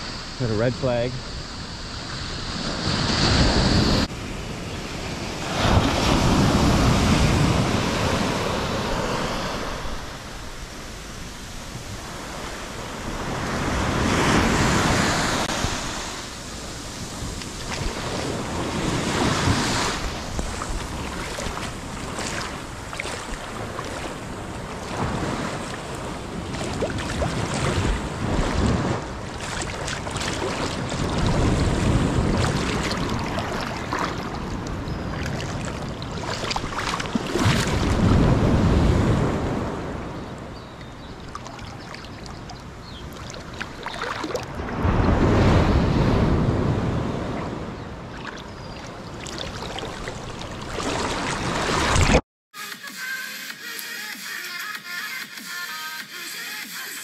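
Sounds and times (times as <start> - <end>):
ocean surf breaking on beach: 0.0 - 48.1
wind noise on microphone: 1.2 - 41.1, 44.2 - 50.3.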